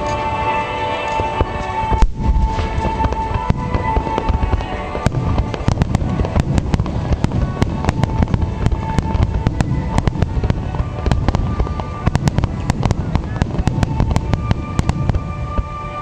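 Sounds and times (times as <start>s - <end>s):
fireworks booming: 0.0s - 16.0s
fireworks crackling pops: 0.0s - 16.0s
music with sustained notes: 0.0s - 16.0s.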